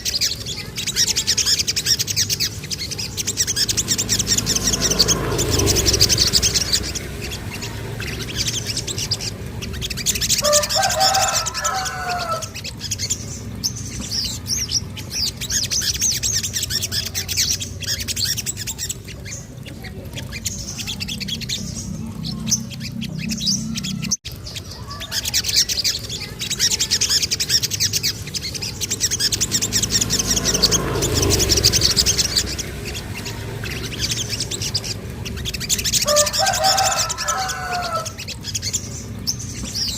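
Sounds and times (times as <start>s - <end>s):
bird chirping trills: 0.0s - 39.9s
lower bird warbling: 0.0s - 39.9s.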